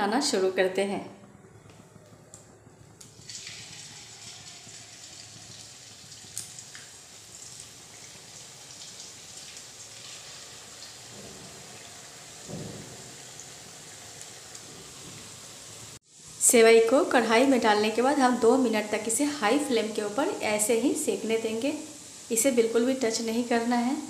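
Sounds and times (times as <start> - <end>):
strands sizzling in hot oil: 3.0 - 24.0.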